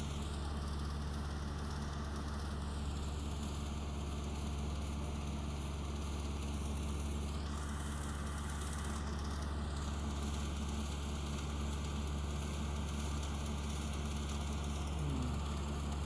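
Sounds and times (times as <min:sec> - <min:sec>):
harvester engine drone: 0:00.0 - 0:16.0.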